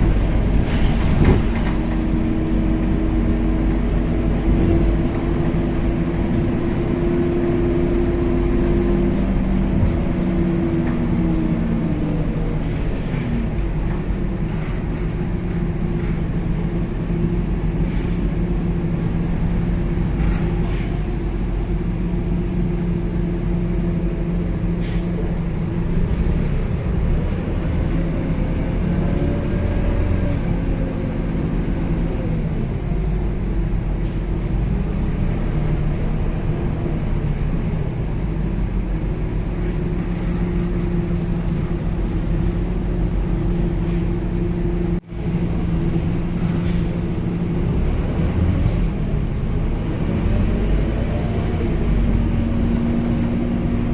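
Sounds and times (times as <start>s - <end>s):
bus engine running: 0.0s - 53.9s
road noise: 0.0s - 53.9s.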